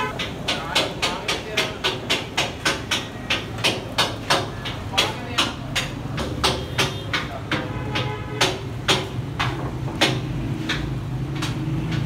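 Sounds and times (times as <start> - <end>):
utensil knocking on cooking surface: 0.0 - 11.0.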